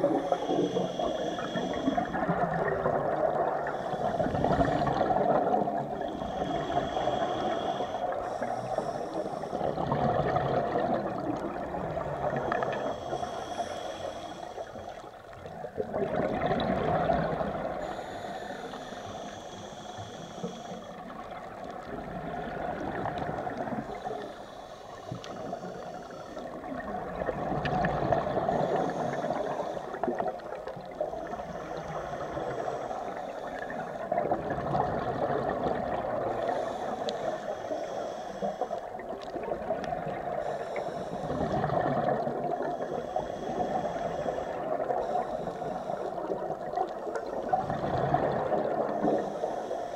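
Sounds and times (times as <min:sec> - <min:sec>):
diver breathing through regulator: 0:00.0 - 0:15.2, 0:16.7 - 0:49.9
exhaled bubbles gurgling: 0:00.0 - 0:49.9.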